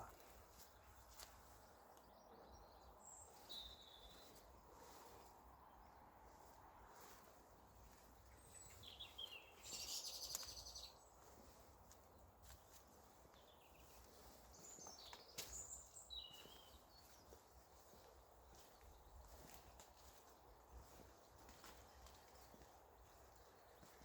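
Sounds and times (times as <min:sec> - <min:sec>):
birds chirping and trilling: 0:00.0 - 0:07.2, 0:07.8 - 0:24.0
faint outdoor background: 0:00.0 - 0:24.0.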